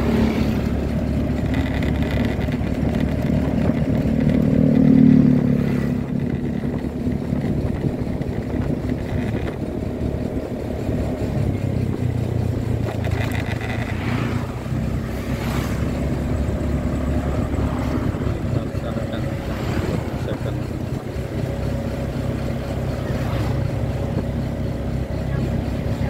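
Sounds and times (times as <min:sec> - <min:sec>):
motorcycle engine running: 0:00.0 - 0:26.0
traffic passing: 0:00.0 - 0:26.0
tyre noise on wet road: 0:00.0 - 0:26.0.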